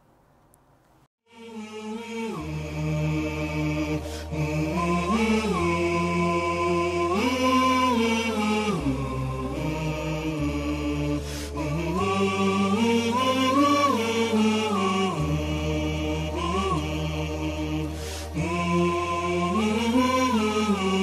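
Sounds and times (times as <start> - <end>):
slow vocal chant: 1.3 - 21.0
low steady drone: 1.4 - 21.0.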